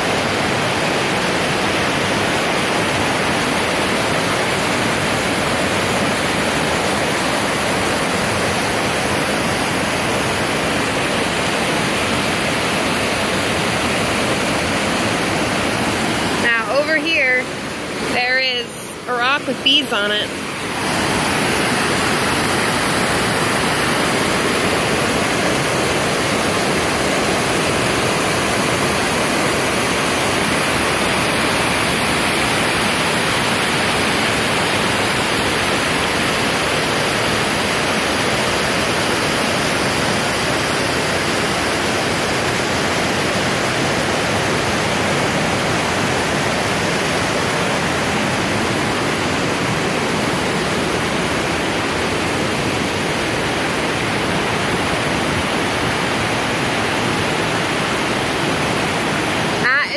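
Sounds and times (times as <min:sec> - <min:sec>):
creek water rushing over rocks: 0:00.0 - 0:59.9.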